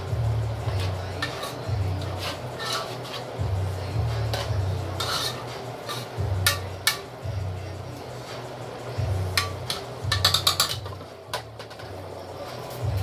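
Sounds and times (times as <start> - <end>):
music with pulsing deep bass: 0.0 - 2.6, 3.3 - 13.0.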